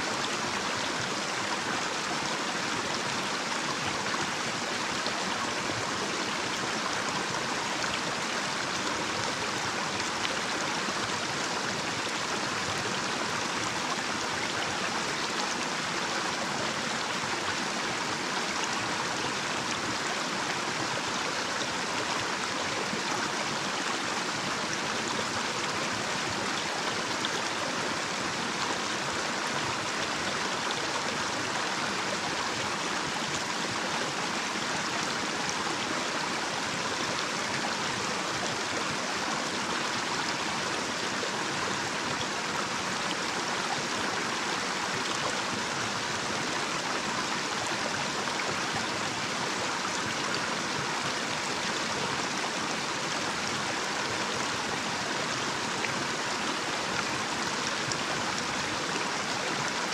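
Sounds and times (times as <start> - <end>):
stream flowing over cascade: 0.0 - 59.9.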